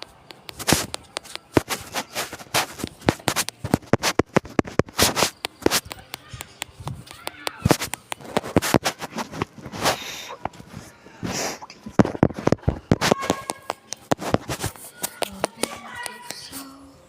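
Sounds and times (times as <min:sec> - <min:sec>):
crackling and scratching: 0:00.0 - 0:16.7.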